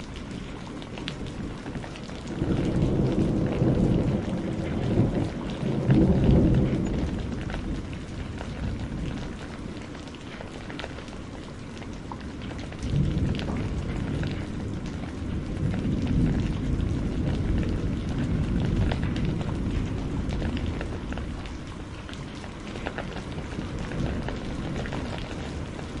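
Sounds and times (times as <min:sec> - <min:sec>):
steady rain: 0:00.0 - 0:26.0
thunder rumbling: 0:00.0 - 0:26.0.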